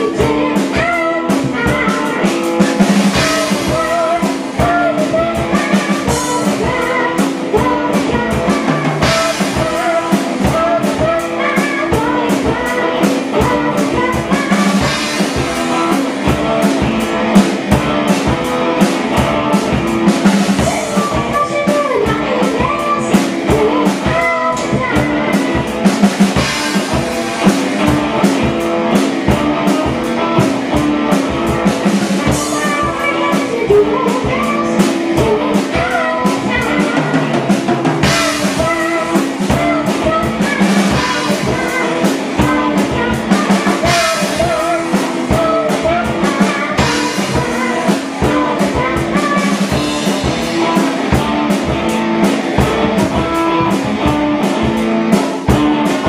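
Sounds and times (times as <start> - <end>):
drum kit steady beat: 0.0 - 56.0
electric guitars through amplifiers: 0.0 - 56.0
person singing into a microphone: 0.0 - 56.0.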